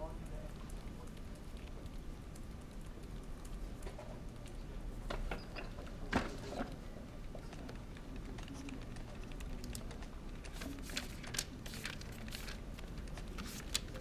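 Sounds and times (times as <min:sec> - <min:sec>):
low room hum: 0:00.0 - 0:14.0
paper ticks and rustles: 0:00.2 - 0:14.0.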